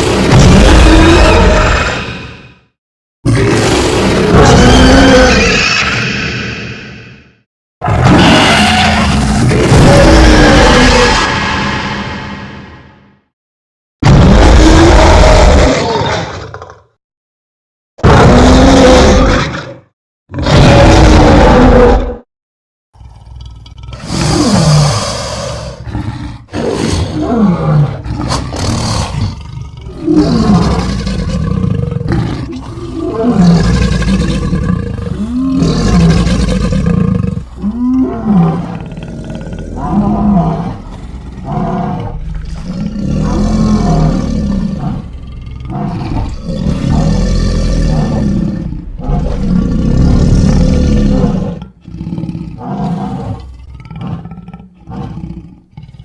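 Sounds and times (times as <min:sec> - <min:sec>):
dinosaur roars and growls: 0:00.0 - 0:02.7, 0:03.3 - 0:13.2, 0:14.0 - 0:17.0, 0:18.0 - 0:22.3, 0:23.0 - 0:56.0.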